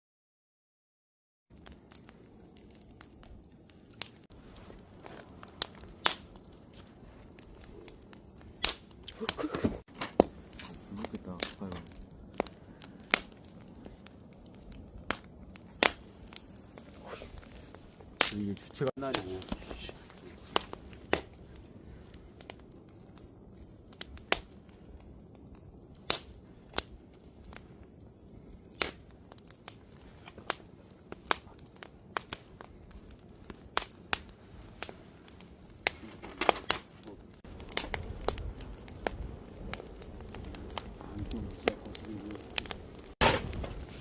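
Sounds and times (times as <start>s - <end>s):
wood fire crackling: 1.5s - 44.0s.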